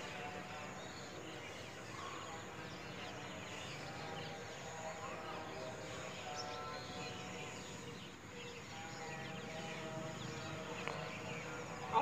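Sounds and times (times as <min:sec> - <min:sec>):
birds chirping: 0:00.0 - 0:12.0
steady background noise: 0:00.0 - 0:12.0.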